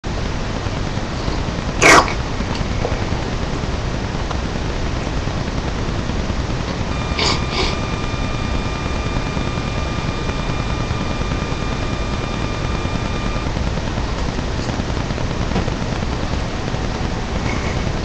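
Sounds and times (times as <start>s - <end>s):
static hiss: 0.0s - 18.0s
faint high whine: 0.1s - 18.0s.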